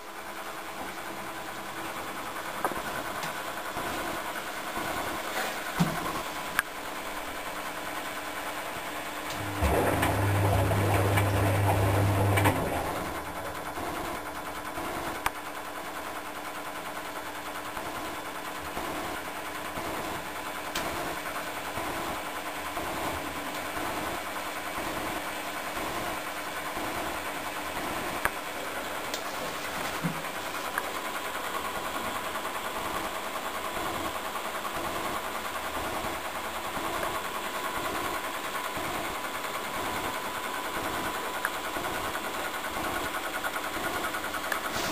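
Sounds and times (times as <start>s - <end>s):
washing machine drum running: 0.1s - 44.9s.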